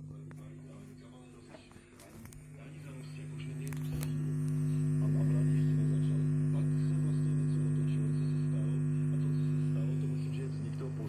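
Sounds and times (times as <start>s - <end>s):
faint broadcast voice: 0.0s - 11.0s
radio mains hum: 0.0s - 11.0s.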